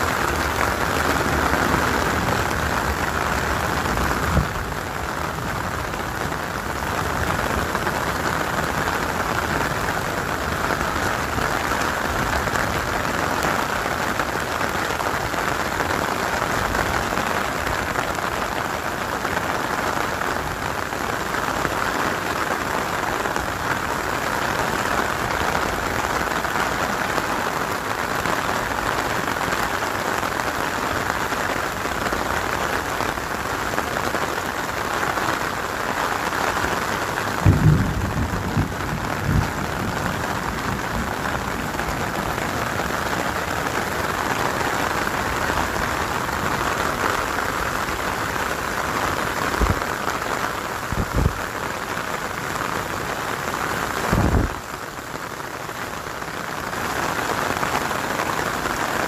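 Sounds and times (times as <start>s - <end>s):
rain on plastic umbrella: 0.0s - 59.0s.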